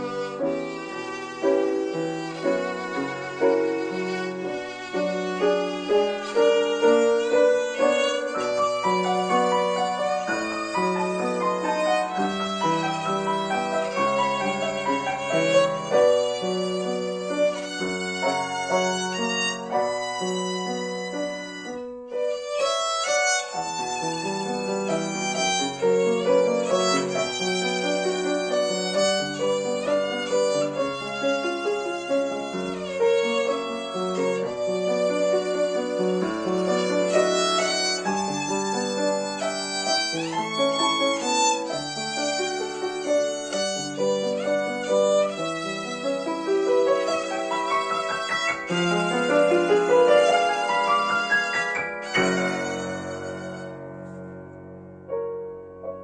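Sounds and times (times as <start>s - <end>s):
solo violin melody: 0.0s - 54.6s
piano accompaniment: 0.0s - 56.0s.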